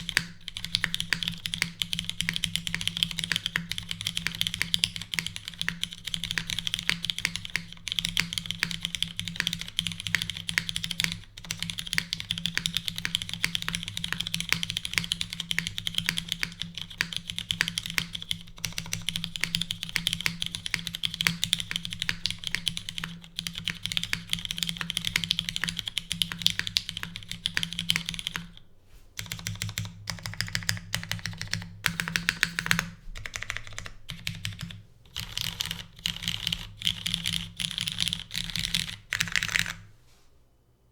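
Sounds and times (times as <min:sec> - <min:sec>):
mechanical keyboard typing: 0:00.0 - 0:28.6, 0:29.2 - 0:39.9.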